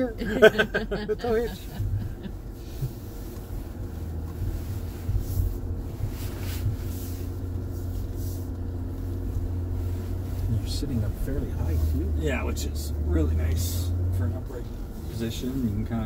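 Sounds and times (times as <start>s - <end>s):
engine drone inside cabin: 0.0s - 16.0s.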